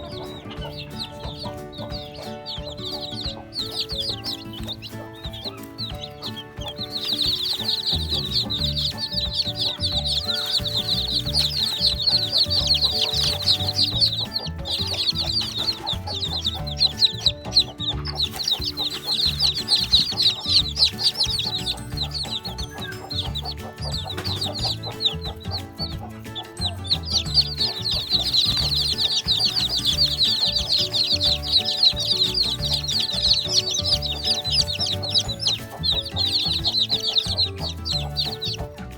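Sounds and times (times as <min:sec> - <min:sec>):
background music: 0:00.0 - 0:38.9
chicks peeping: 0:00.0 - 0:38.9.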